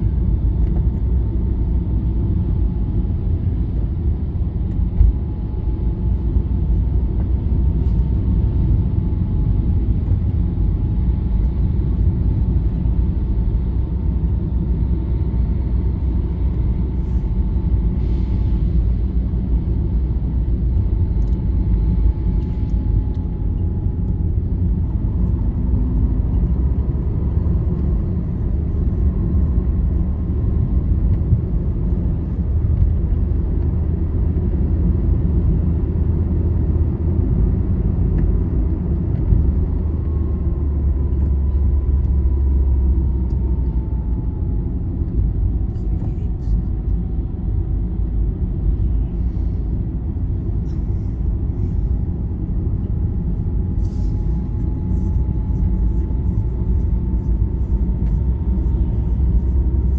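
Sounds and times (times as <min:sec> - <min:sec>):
bus engine and tyres rumbling: 0:00.0 - 0:59.9.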